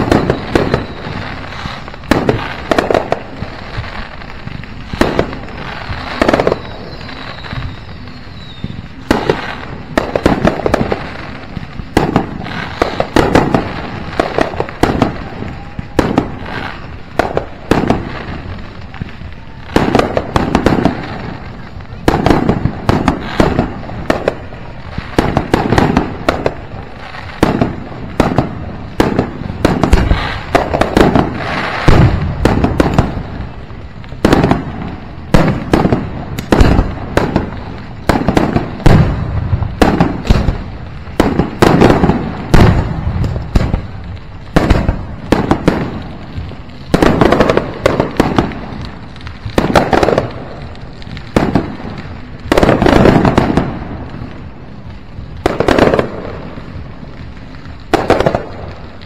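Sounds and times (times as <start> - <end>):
fireworks bangs: 0.0 - 59.0.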